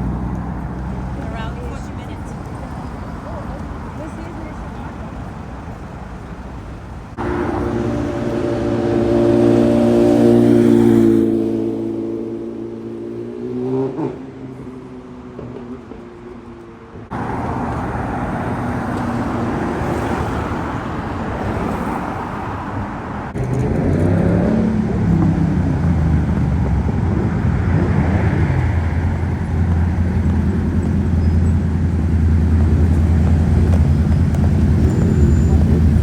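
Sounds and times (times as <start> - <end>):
loud car engine rumble: 0.0 - 36.0
street traffic engines: 0.0 - 36.0.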